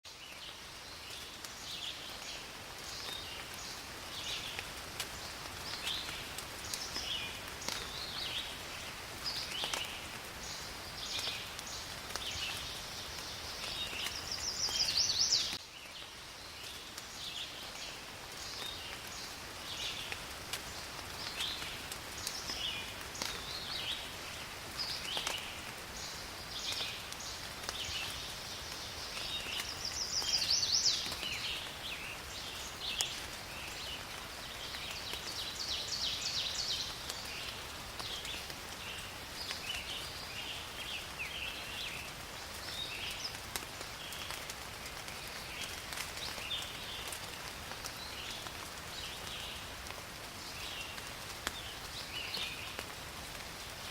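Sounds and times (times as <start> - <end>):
rain hissing: 0.1 - 53.9
raindrop ticks: 1.1 - 15.6, 16.6 - 40.1, 40.8 - 53.9.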